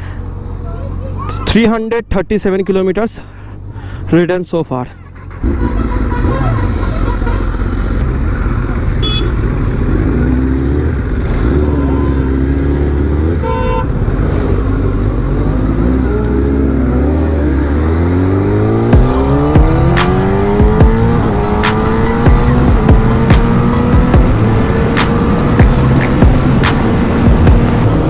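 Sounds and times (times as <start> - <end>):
motorcycle engine accelerating: 5.2 - 28.0.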